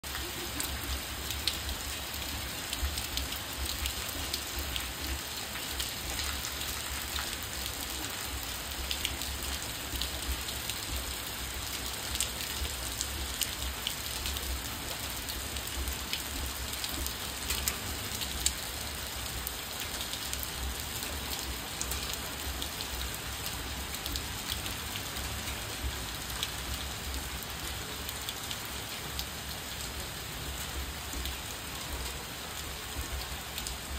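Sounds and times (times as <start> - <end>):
rain falling on pavement and trees: 0.0 - 33.9.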